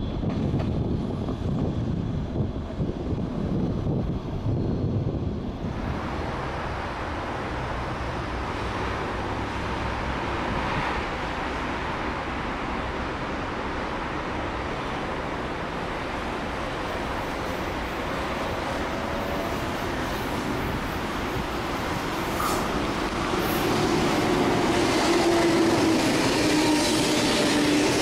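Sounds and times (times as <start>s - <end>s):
wind-like rushing: 0.0s - 14.6s, 16.0s - 28.0s
electric train rumbling past: 0.0s - 28.0s.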